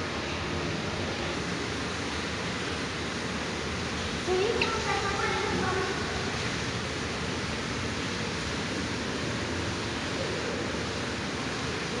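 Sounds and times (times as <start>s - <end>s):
aquarium water rushing: 0.0s - 12.0s.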